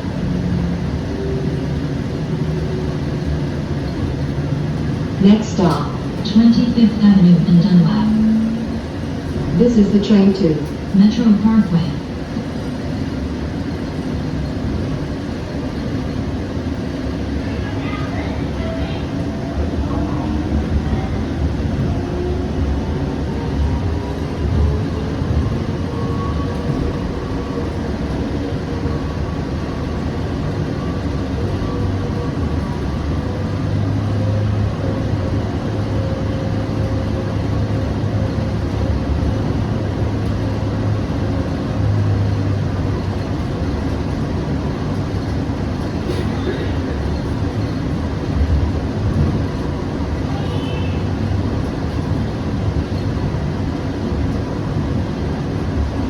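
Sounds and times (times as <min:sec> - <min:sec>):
wheels rumbling on track: 0:00.0 - 0:56.0.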